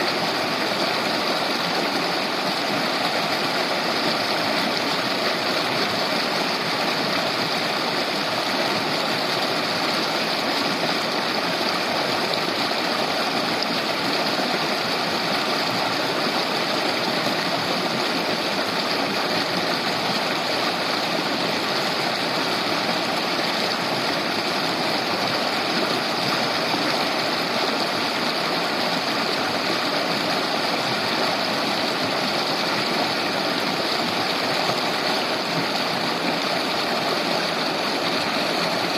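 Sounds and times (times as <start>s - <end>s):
river babbling over stones: 0.0s - 38.9s.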